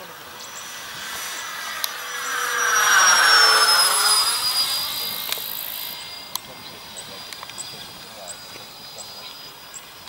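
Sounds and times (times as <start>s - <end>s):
model jet fans whining past: 0.0s - 10.0s.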